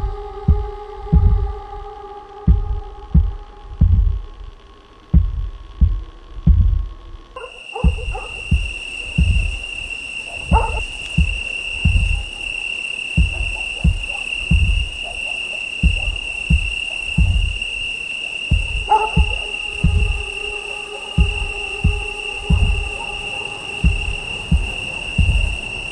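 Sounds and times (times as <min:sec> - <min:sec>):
low heavy thumps: 0:00.0 - 0:01.6, 0:02.5 - 0:12.5, 0:13.2 - 0:15.1, 0:15.8 - 0:17.9, 0:18.5 - 0:20.5, 0:21.2 - 0:23.2, 0:23.8 - 0:25.7
high-pitched ringing drone: 0:00.0 - 0:25.9
low held tones: 0:00.0 - 0:25.9.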